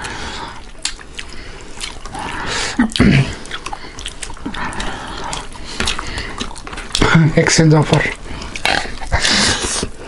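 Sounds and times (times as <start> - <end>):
wet chewing and smacking: 0.0 - 10.0.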